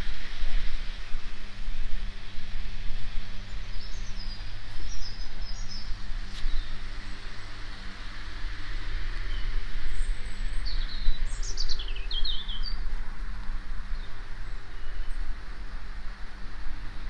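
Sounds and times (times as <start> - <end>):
steady low hum: 0.0 - 17.0
garden birds chirping: 2.7 - 17.0.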